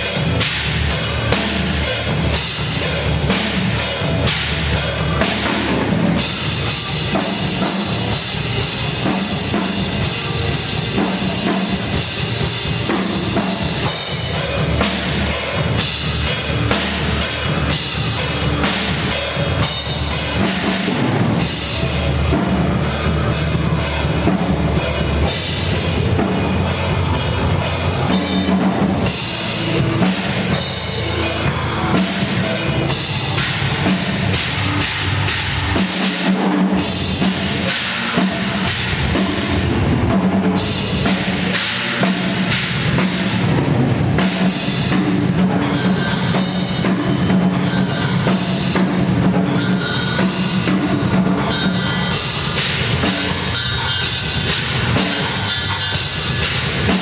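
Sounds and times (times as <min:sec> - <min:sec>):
loud rock music: 0:00.0 - 0:57.0.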